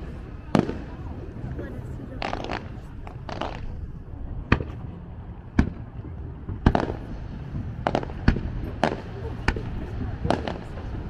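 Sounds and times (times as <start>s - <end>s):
fireworks bursting with bangs: 0.0s - 11.0s
steady low rumble: 0.0s - 11.0s.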